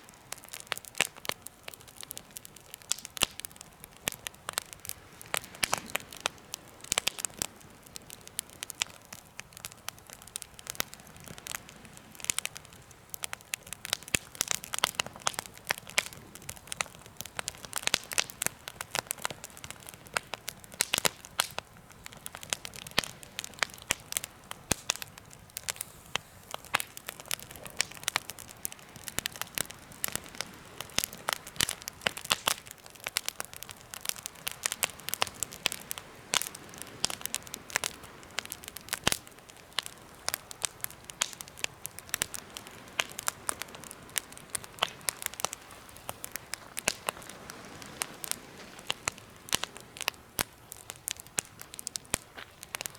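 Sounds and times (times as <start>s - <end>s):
campfire crackling and popping: 0.0s - 52.9s
soft fire hiss: 0.0s - 52.9s.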